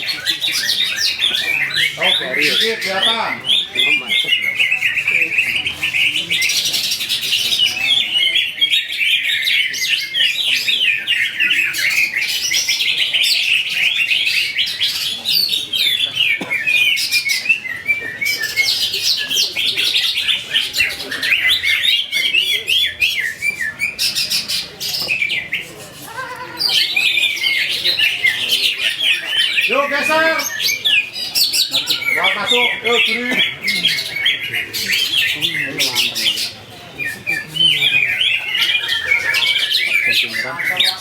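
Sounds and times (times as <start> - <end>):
birds chirping and whistling: 0.0 - 41.0.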